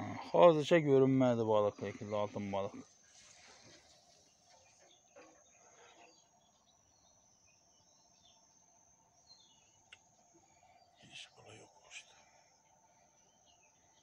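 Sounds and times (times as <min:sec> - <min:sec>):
faint bird chirps: 0:00.0 - 0:14.0
steady high-pitched hum: 0:00.0 - 0:14.0.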